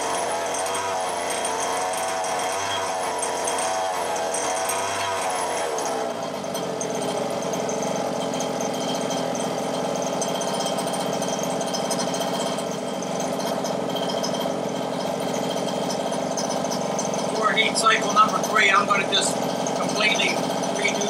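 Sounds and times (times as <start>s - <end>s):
two-stroke engine idling: 0.0s - 21.0s.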